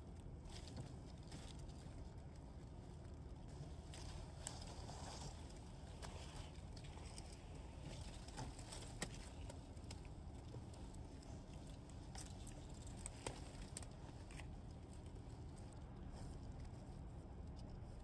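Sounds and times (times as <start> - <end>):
rustling and crackling leaves: 0.0 - 18.0.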